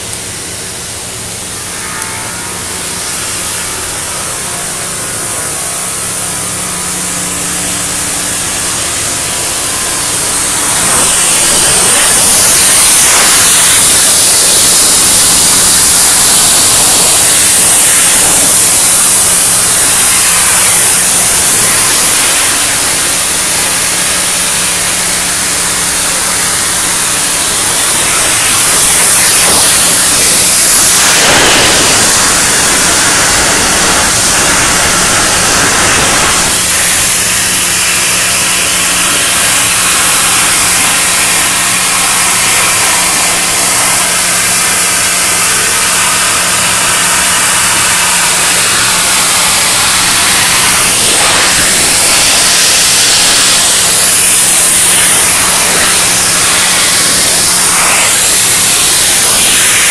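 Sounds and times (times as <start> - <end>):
cutting torches hissing: 0.0 - 59.9
low machine hum: 0.0 - 59.9.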